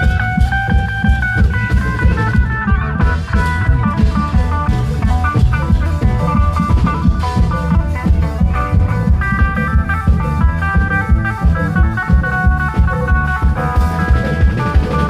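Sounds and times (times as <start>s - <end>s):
amplified plucked-string melody: 0.0s - 15.0s
drums beating fast rhythm: 0.0s - 15.0s.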